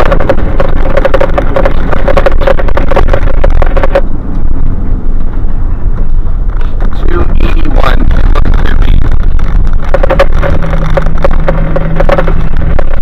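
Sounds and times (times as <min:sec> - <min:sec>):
knocks and rattles: 0:00.0 - 0:04.1, 0:06.6 - 0:13.0
engine and road rumble: 0:00.0 - 0:13.0
rapidly pulsing tone: 0:00.0 - 0:13.0.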